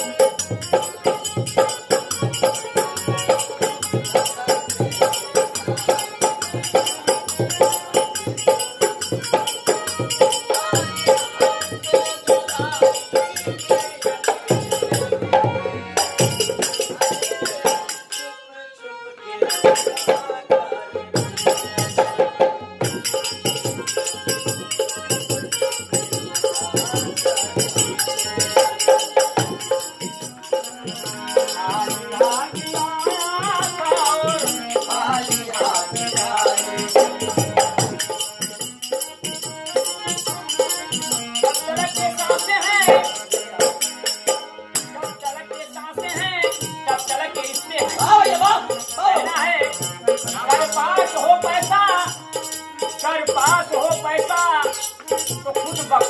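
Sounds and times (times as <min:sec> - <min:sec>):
man singing: 0:00.0 - 0:18.7, 0:19.3 - 0:56.0
harmonium playing: 0:00.0 - 0:56.0
jingling hand percussion: 0:00.0 - 0:56.0.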